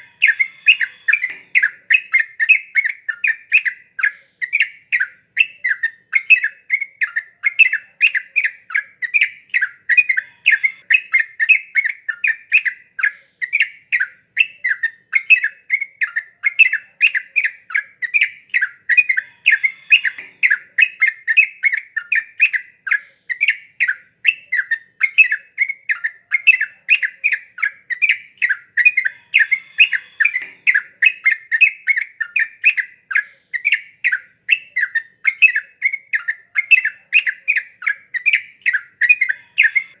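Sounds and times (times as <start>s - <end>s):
bird singing rapid chirps: 0.0s - 40.0s.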